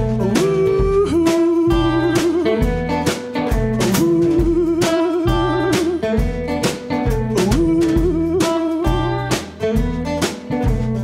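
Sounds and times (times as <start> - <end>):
electric blues band playing: 0.0 - 11.0
electric guitar bent notes: 0.0 - 11.0.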